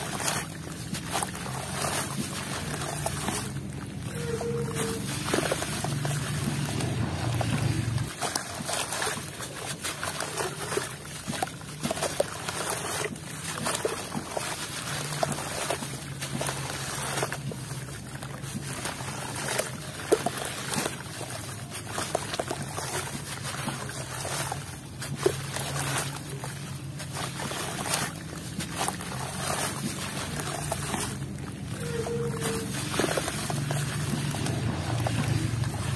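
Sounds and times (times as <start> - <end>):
grains splashing into water: 0.0 - 35.9
water sloshing: 0.0 - 35.9.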